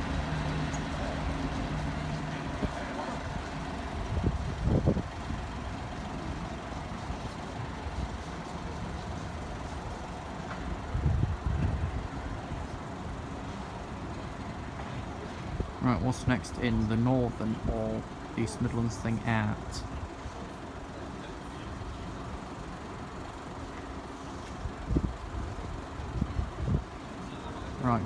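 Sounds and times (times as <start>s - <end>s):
low engine hum: 0.0s - 28.0s
steady traffic noise: 0.0s - 28.0s.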